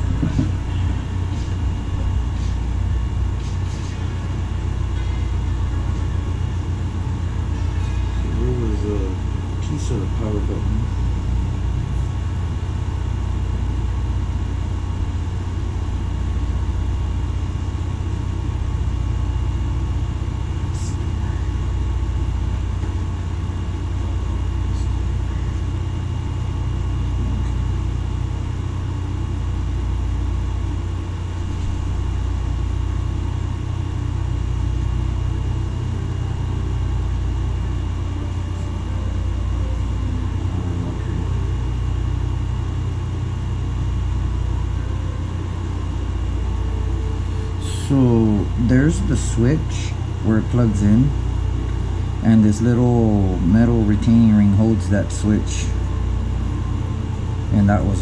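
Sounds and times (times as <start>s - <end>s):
low mechanical drone: 0.0s - 58.0s.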